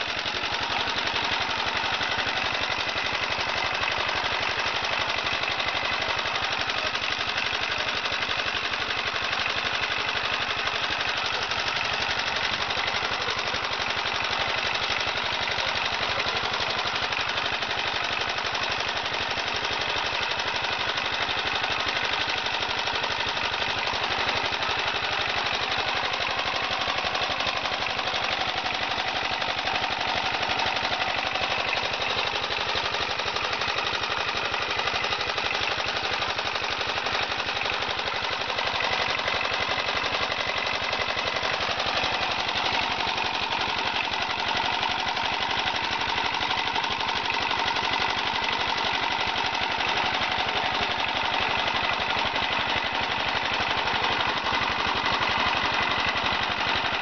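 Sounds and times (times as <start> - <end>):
machine running with fast knocking: 0.0 - 57.0.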